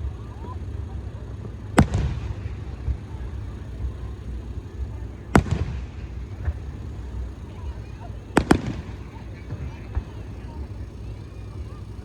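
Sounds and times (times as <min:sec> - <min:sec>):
firework shells bursting: 0:00.0 - 0:12.0
steady low rumble: 0:00.0 - 0:12.0.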